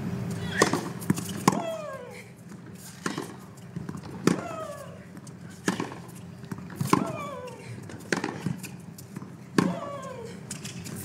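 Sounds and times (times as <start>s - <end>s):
racquets striking tennis ball: 0.5s - 1.8s, 2.6s - 11.0s.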